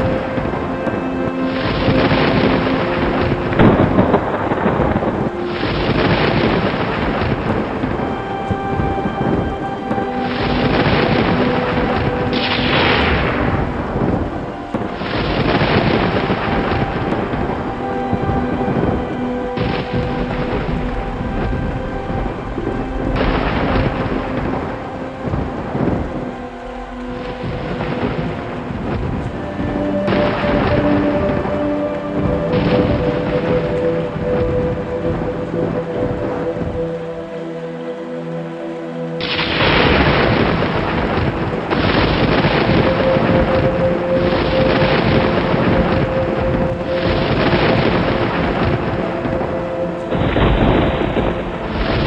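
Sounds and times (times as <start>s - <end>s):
thunder crack and rumble: 0.0s - 37.2s, 39.2s - 52.0s
heavy rain: 0.0s - 52.0s
soft music: 0.0s - 52.0s.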